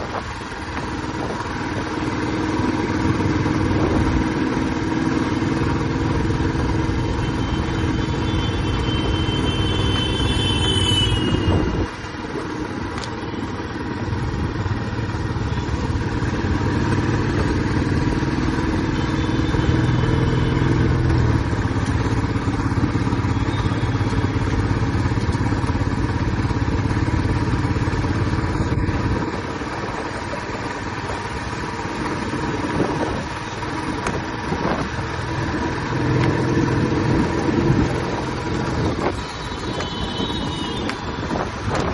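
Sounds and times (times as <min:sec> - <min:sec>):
motorcycle engine and exhaust: 0:00.0 - 0:41.9.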